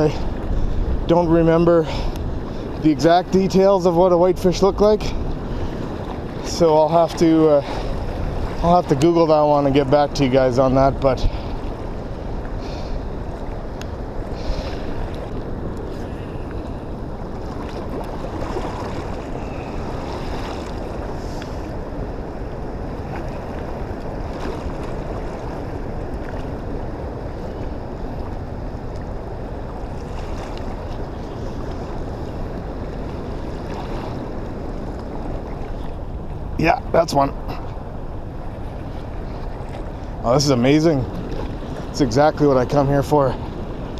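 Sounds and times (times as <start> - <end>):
rushing water: 0.0 - 43.9
wind on microphone: 0.0 - 43.9.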